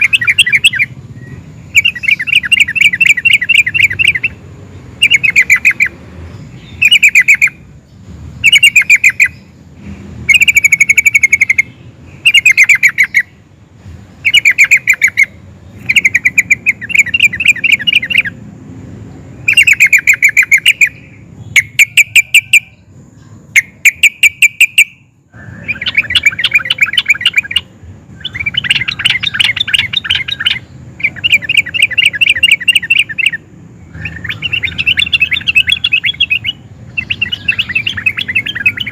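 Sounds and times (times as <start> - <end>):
bird singing rattling phrases: 0.0 - 38.9.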